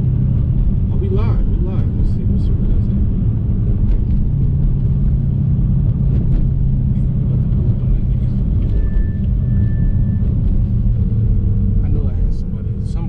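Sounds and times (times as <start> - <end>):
car engine cruising drone: 0.0 - 13.0.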